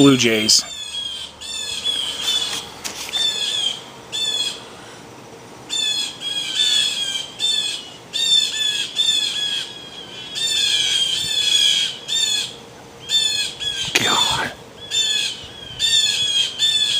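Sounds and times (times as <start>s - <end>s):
blue jays screeching: 0.0s - 5.0s, 5.7s - 16.9s.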